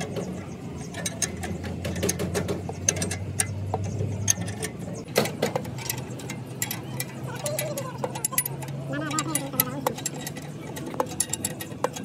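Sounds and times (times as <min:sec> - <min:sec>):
low steady hum: 0:00.0 - 0:12.0
metal tool clicks and clinks: 0:00.8 - 0:12.0.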